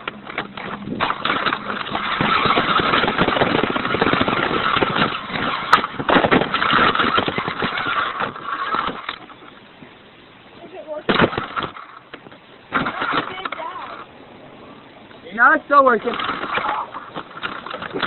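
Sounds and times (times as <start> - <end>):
toy truck motor rattling: 0.0 - 9.6, 11.2 - 14.1, 15.8 - 18.0.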